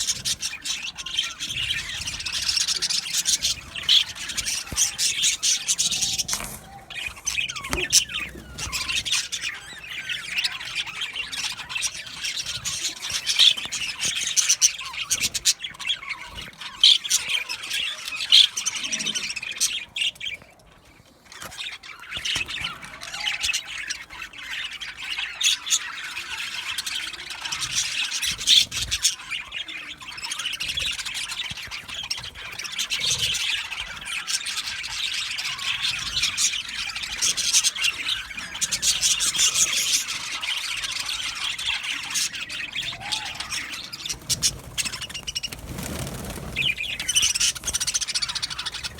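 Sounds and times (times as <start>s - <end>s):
budgerigars chattering: 0.0s - 20.4s, 21.3s - 48.9s.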